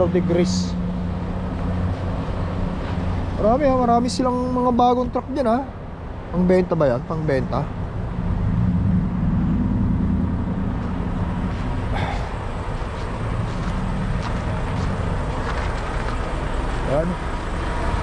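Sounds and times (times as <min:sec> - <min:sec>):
truck diesel engine humming: 0:00.0 - 0:18.0.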